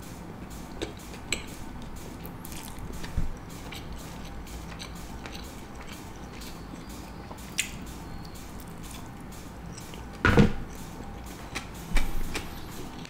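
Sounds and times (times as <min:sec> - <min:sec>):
chewing food: 0:00.7 - 0:13.0.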